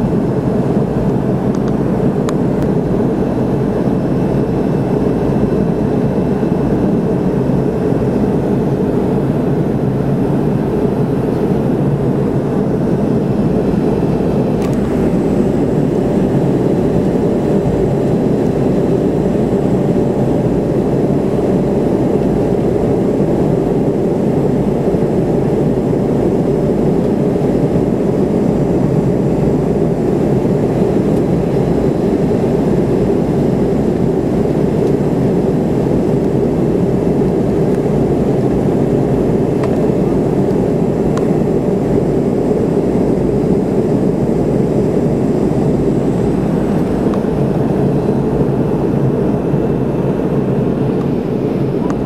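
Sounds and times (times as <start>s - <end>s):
airliner cabin engine rush: 0.0s - 52.0s
faint steady hum: 0.0s - 52.0s.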